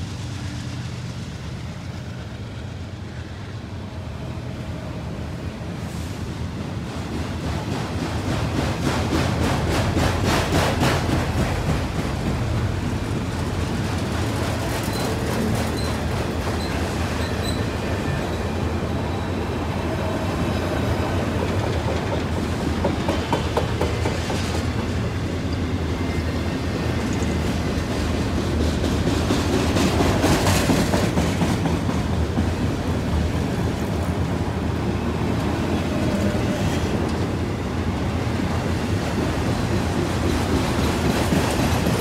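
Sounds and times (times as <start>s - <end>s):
steel wheels on rails: 5.7s - 42.0s.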